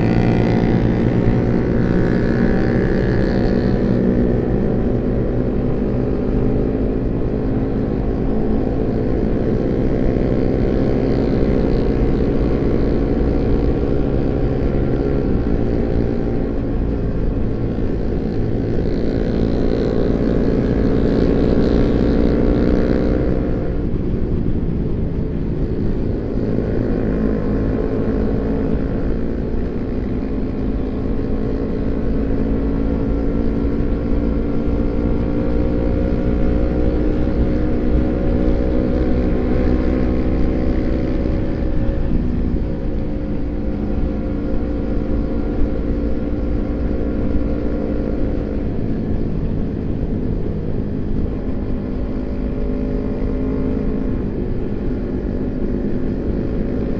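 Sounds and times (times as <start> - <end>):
motorcycle engine while riding: 0.0 - 56.9.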